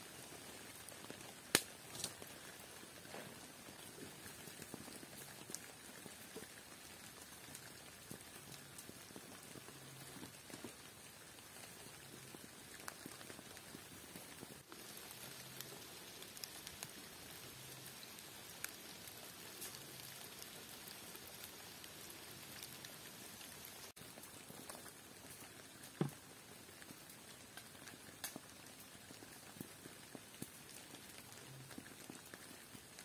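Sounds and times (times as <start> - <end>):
light rain patter: 0.0 - 33.0.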